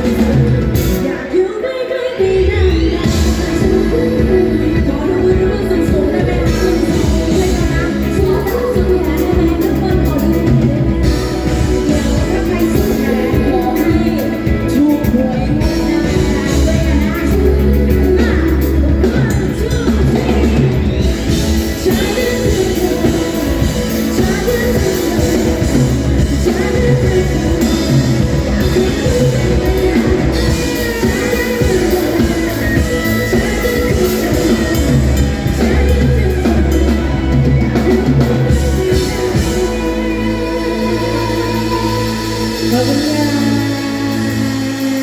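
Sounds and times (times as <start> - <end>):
live pop-rock band: 0.0 - 45.0
woman singing: 0.0 - 45.0.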